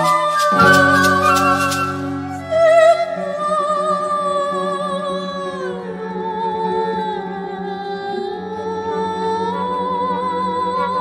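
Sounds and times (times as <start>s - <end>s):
chamber ensemble slow melody: 0.0s - 11.0s.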